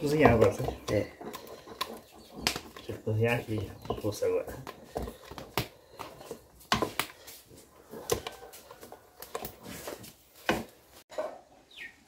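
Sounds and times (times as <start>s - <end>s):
wooden spoon scraping pot: 0.0s - 11.4s.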